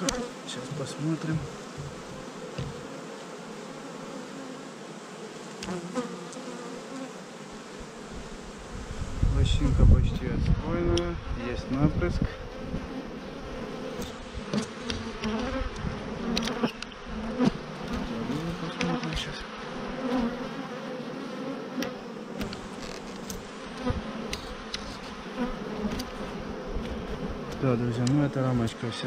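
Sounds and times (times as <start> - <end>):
bees buzzing around hive: 0.0 - 29.0
bees humming close past: 0.0 - 29.0.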